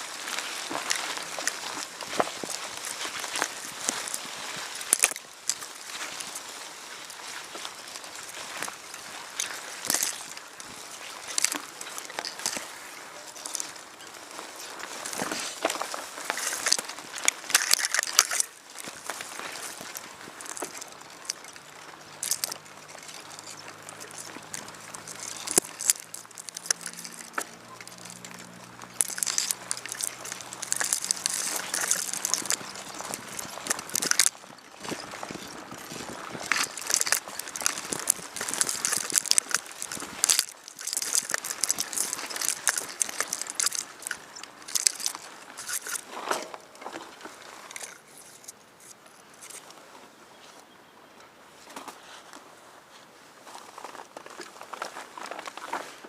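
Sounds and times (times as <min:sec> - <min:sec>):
footsteps crunching dry leaves: 0:00.0 - 0:48.5.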